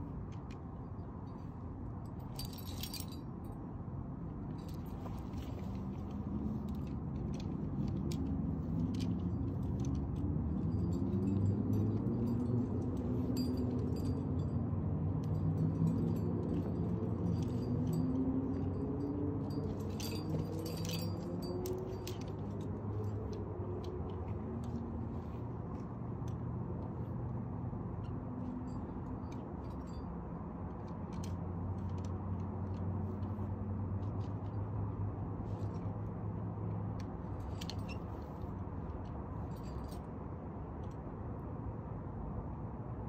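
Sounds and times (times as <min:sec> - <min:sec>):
metal climbing gear clinking: 0:00.0 - 0:41.0.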